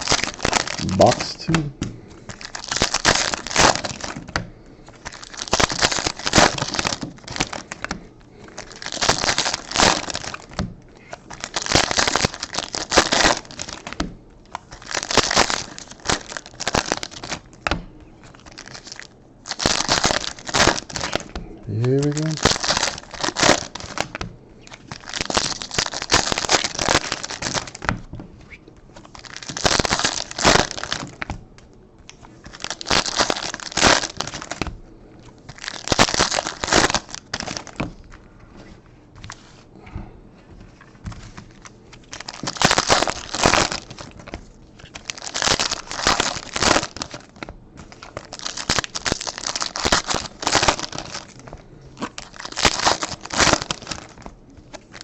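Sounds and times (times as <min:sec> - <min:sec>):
foil wrappers tearing and crinkling: 0:00.0 - 0:01.4, 0:02.3 - 0:04.3, 0:05.0 - 0:17.5, 0:18.3 - 0:28.0, 0:29.0 - 0:31.3, 0:32.3 - 0:34.7, 0:35.4 - 0:38.1, 0:40.9 - 0:55.0.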